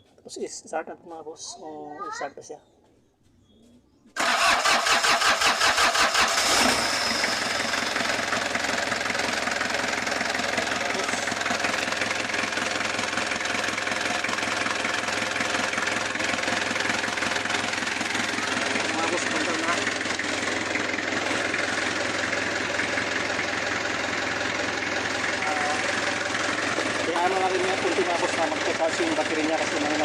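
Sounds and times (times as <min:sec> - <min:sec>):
engine cranking by starter motor: 0:04.2 - 0:30.0
engine idling: 0:04.2 - 0:30.0.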